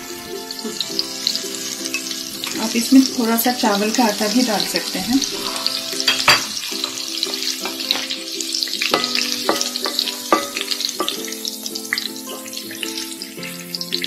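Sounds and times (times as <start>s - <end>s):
food deep-frying in hot oil: 0.0s - 14.0s
soft background music: 0.0s - 14.0s.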